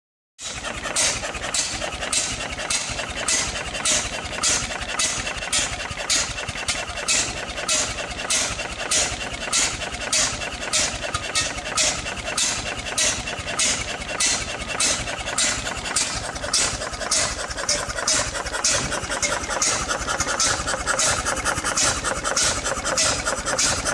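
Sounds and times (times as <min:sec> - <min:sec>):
stationary engine running: 0:00.4 - 0:23.9.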